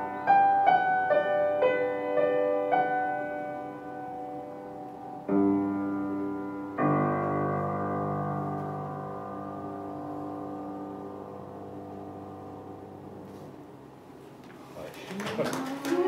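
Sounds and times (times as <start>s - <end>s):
piano chords: 0.0s - 14.4s.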